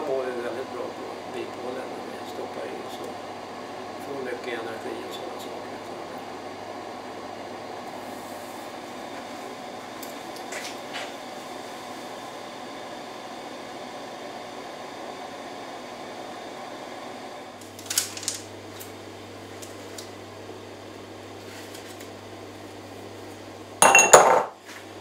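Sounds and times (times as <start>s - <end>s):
dehydrator fan humming: 0.0s - 25.0s.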